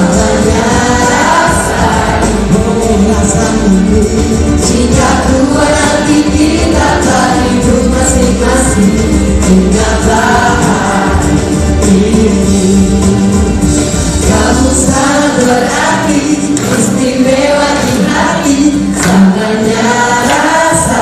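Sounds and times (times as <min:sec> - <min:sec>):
choir singing over backing track: 0:00.0 - 0:21.0
steady bass: 0:00.0 - 0:21.0.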